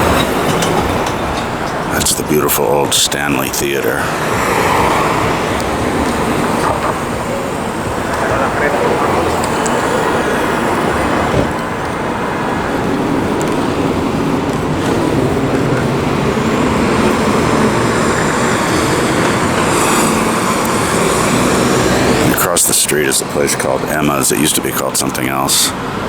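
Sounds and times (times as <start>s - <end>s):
city street traffic: 0.0s - 26.0s.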